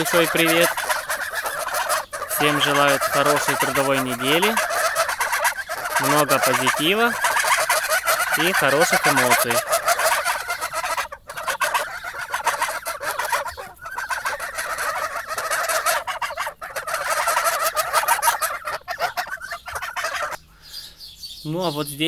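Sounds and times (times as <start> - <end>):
geese honking: 0.0 - 20.4.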